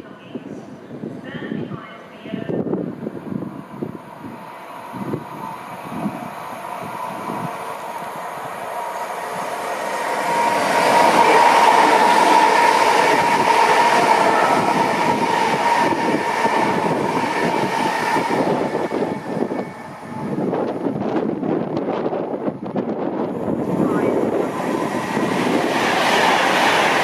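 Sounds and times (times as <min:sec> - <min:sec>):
train high whine: 0:00.0 - 0:27.0.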